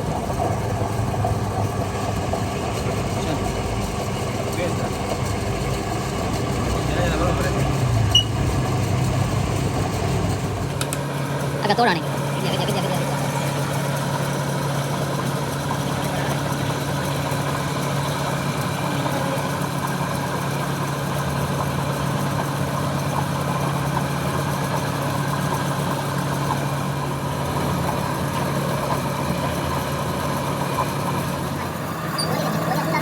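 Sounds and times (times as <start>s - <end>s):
machine humming steadily: 0.0s - 33.0s.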